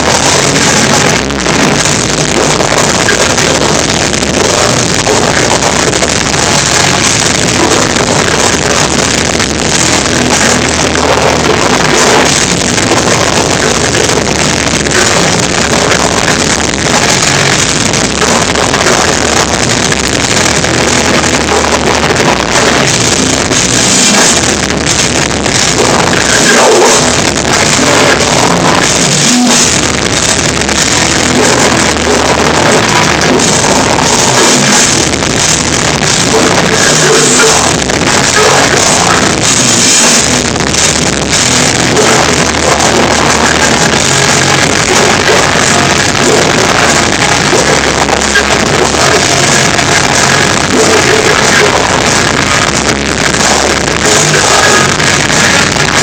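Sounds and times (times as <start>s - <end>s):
distorted rock band playing live: 0.0s - 56.0s.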